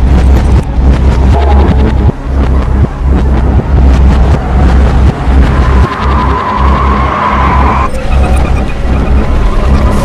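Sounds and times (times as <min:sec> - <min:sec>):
heavy vehicle rumbling: 0:00.0 - 0:10.0
throbbing low bass music: 0:00.0 - 0:10.0.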